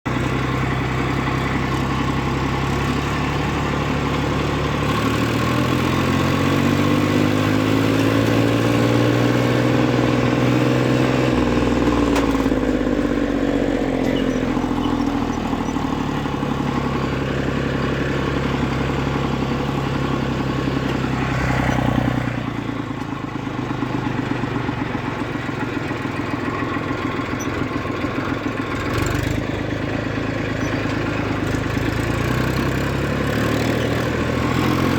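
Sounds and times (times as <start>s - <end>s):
diesel tractor engines: 0.1s - 34.9s.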